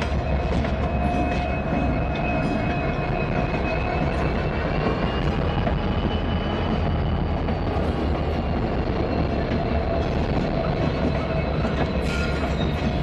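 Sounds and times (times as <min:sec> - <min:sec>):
diesel locomotives rumbling past: 0:00.0 - 0:13.0.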